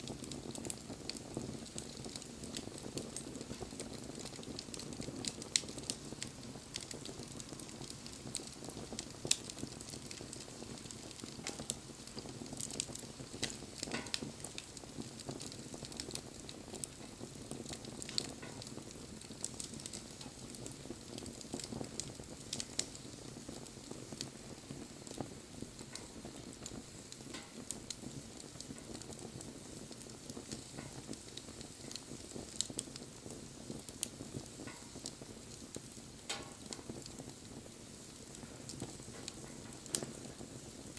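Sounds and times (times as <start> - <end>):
bonfire flame rushing: 0.0 - 40.9
fire crackling and popping: 0.0 - 40.9.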